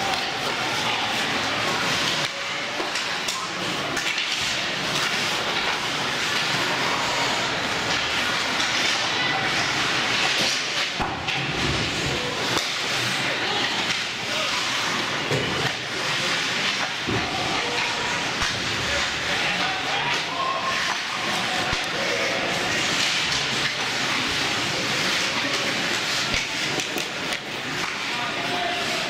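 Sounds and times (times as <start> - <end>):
skate blades scraping ice: 0.0 - 29.0.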